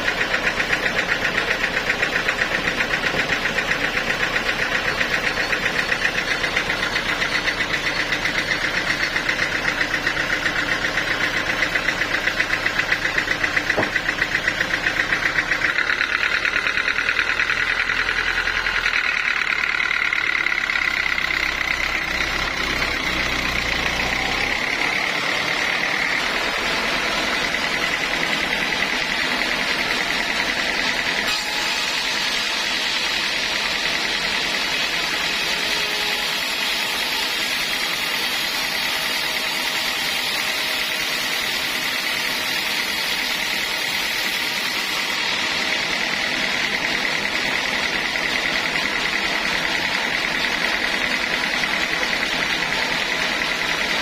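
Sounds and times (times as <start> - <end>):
high-pitched machine whine: 0.0 - 54.0
sawmill machinery running: 0.0 - 54.0.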